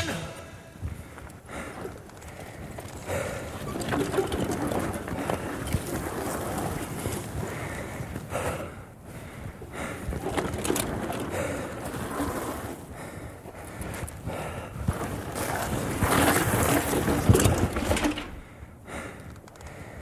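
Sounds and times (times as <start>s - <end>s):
bike tyres crunching on gravel: 0.8s - 18.0s.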